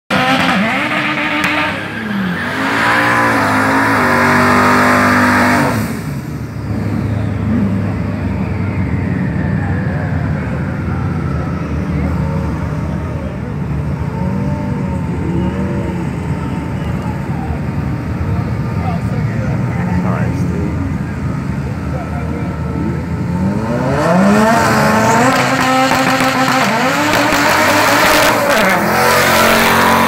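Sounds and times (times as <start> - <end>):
car engine revving: 0.1 - 30.0.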